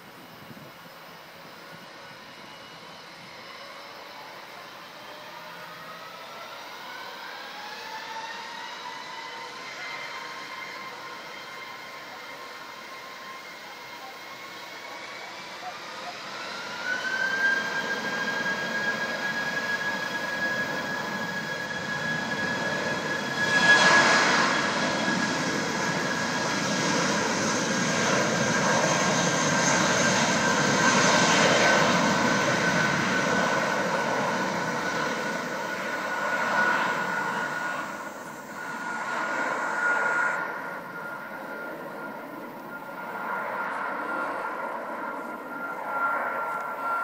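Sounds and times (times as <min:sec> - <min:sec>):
jet engine rush: 0:00.1 - 0:47.0
jet engines whining: 0:00.4 - 0:47.0.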